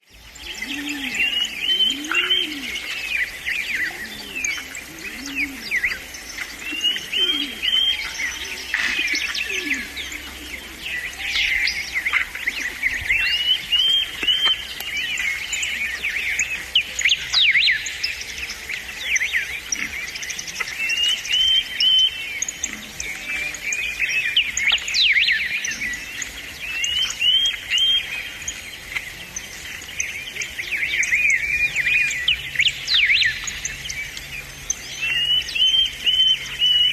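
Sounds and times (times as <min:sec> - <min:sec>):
birds chirping and trilling: 0:00.0 - 0:36.9
lower rising and falling bird calls: 0:00.0 - 0:36.9.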